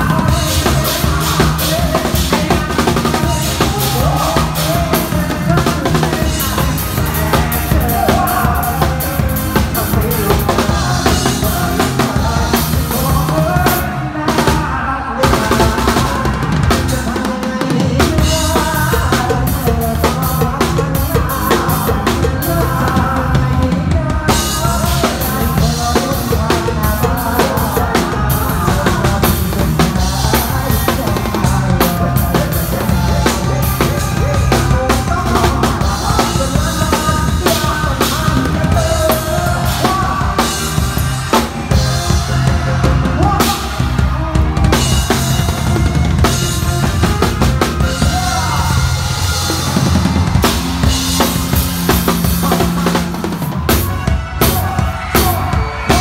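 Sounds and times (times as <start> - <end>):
drum kit playing: 0.0 - 56.0
live band music: 0.0 - 56.0
person singing: 0.0 - 56.0.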